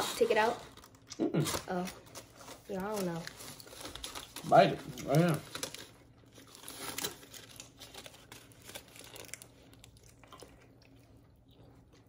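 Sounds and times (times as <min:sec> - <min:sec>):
wrapper crinkling and clicking: 0:00.0 - 0:10.2
biting and chewing food: 0:00.6 - 0:12.0.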